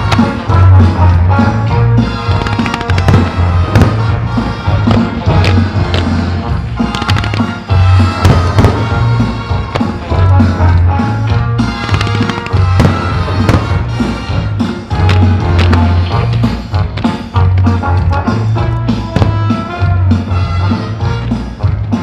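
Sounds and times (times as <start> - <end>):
fireworks bursting with sharp bangs: 0.0 - 22.0
loud music with heavy bass: 0.0 - 22.0.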